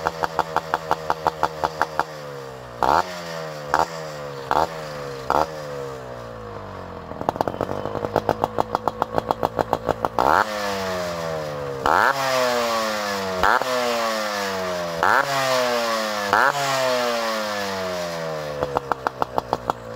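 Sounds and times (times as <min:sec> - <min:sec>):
two-stroke motorcycle engine blips: 0:00.0 - 0:19.9.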